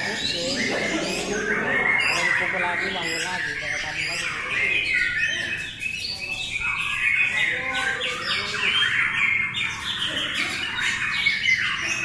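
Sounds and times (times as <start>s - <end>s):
birds whistling and chirping: 0.0s - 12.0s.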